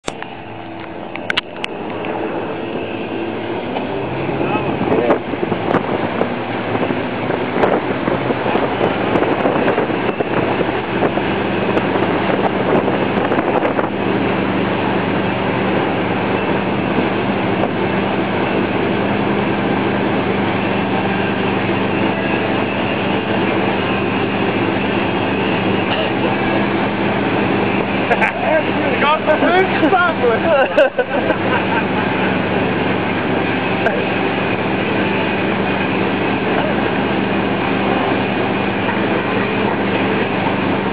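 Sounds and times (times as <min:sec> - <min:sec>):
boat engine droning: 0:00.0 - 0:40.9
churning wake water: 0:00.0 - 0:40.9.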